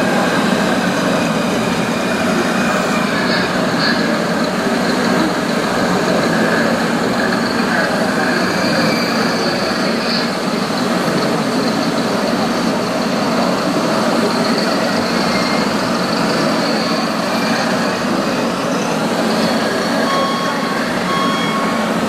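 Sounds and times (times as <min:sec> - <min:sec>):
model truck diesel engine sound: 0:00.0 - 0:22.0.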